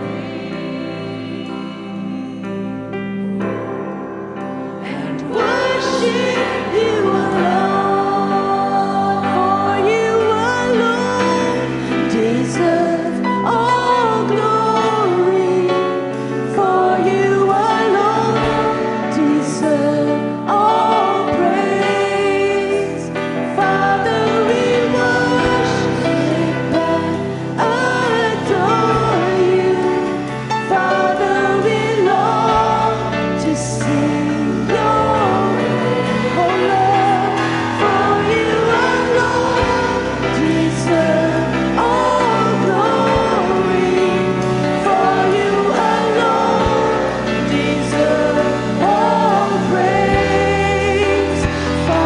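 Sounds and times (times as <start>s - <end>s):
congregation singing: 0.0s - 52.0s
keyboard and bass chords: 0.0s - 52.0s.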